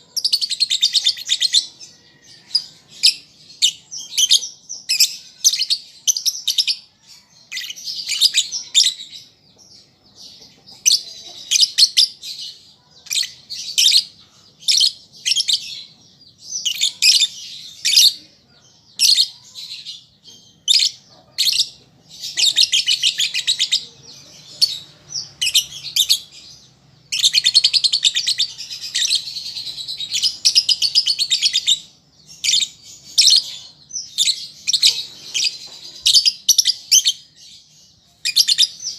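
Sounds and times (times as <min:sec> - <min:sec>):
lovebird chirping: 0:00.0 - 0:38.9.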